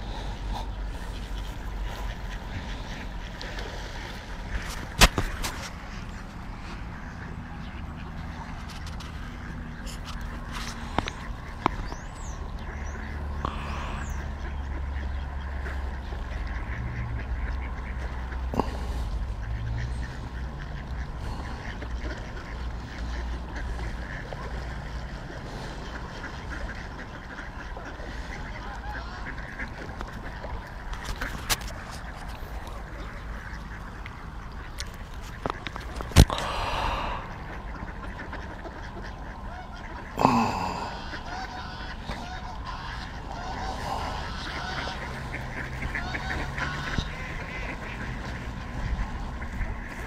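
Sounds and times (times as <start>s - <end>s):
ducks quacking: 0.0s - 50.0s
geese honking: 0.0s - 50.0s.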